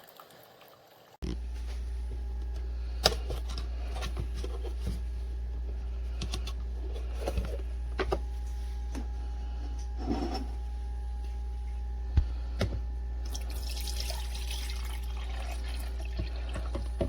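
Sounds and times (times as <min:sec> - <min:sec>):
steady low hum: 0:01.2 - 0:17.0.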